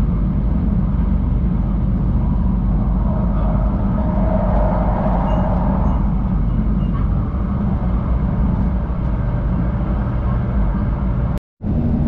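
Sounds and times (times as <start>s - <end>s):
high speed train rumble: 0.0s - 12.0s.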